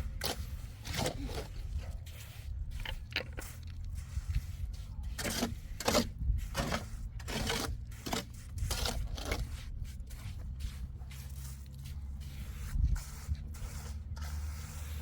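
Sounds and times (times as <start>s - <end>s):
trowel scraping mortar: 0.0s - 15.0s.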